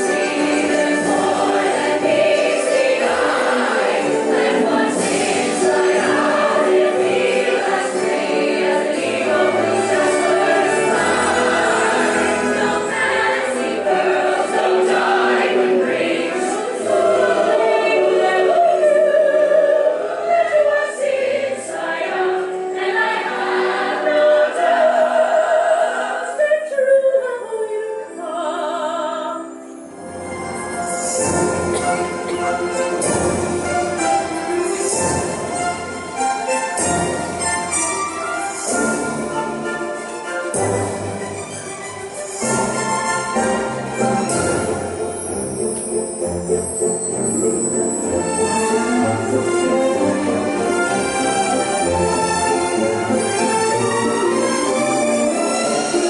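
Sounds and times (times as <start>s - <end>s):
chorus singing: 0.0s - 56.0s
orchestral backing: 0.0s - 56.0s.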